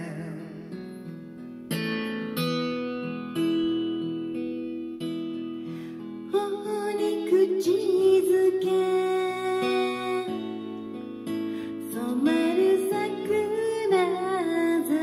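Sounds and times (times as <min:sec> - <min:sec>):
acoustic guitar chords ringing: 0:00.0 - 0:15.0.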